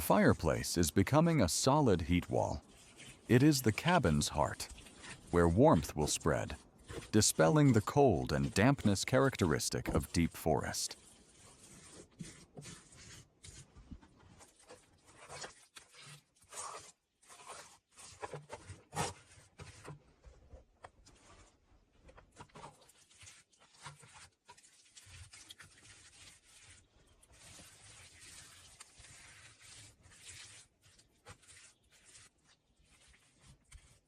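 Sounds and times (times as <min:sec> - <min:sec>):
hands rubbing wet mud on brick: 0:00.0 - 0:34.0.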